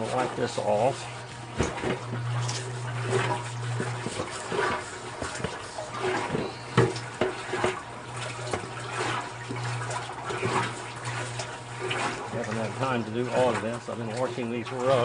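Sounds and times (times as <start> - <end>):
washing machine motor hum: 0.0 - 15.0
water sloshing in washing machine: 0.0 - 15.0.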